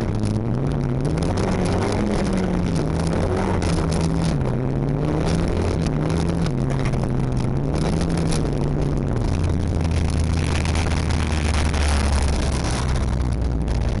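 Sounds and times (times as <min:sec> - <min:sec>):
car engine from inside: 0:00.0 - 0:14.0
gravel and road noise: 0:00.0 - 0:14.0.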